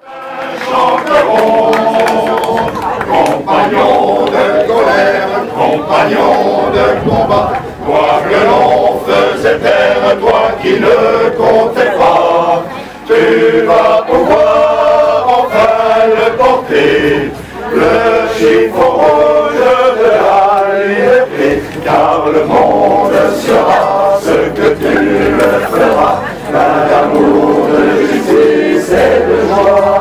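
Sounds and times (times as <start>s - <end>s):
male choir singing: 0.0s - 30.0s.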